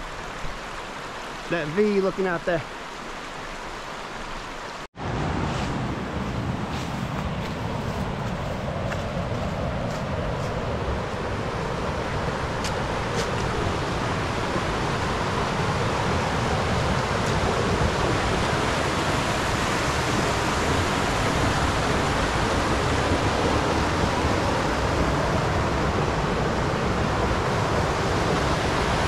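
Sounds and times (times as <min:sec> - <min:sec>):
water rushing over rocks: 0:00.0 - 0:29.0.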